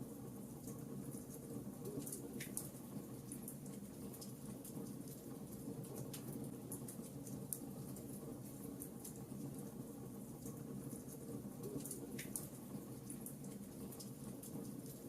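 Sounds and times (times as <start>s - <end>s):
wood fire crackling: 0.4s - 15.0s.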